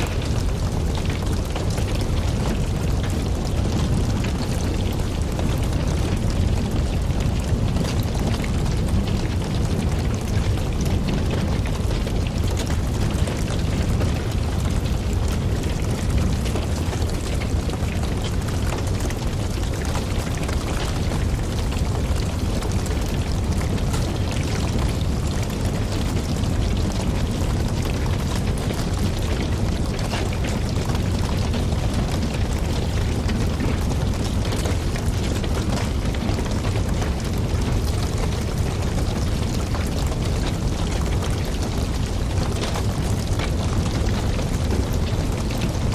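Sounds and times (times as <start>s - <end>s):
fire flames rushing: 0.0s - 45.9s
wood crackling and popping: 0.0s - 45.9s.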